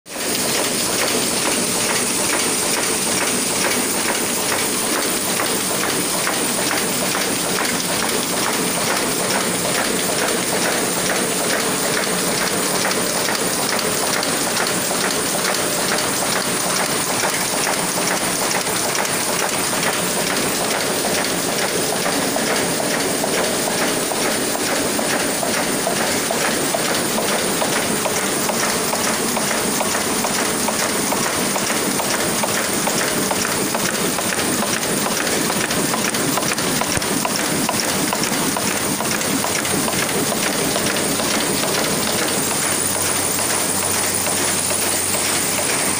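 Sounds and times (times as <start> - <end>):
printing press rhythmic clatter: 0.1 - 45.9.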